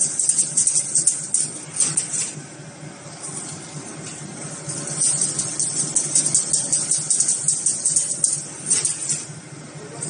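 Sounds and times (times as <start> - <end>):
fast metallic clatter: 0.0 - 2.4, 3.2 - 9.4
machine humming: 0.0 - 10.0.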